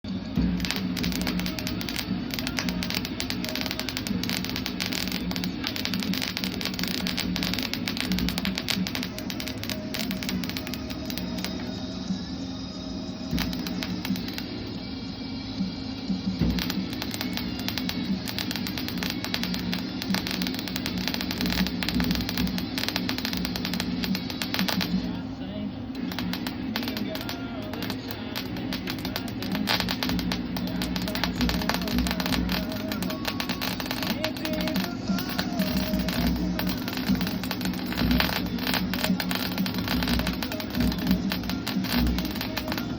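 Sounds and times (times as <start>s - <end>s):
welding arc crackling: 0.0s - 12.0s, 13.2s - 15.0s, 15.6s - 42.9s
electrical hum: 0.0s - 42.9s
low buzz: 0.0s - 42.9s.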